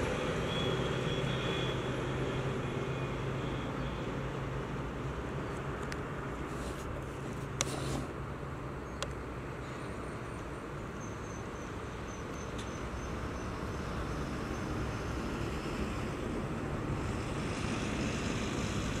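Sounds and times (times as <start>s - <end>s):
highway truck traffic rumble: 0.0s - 19.0s.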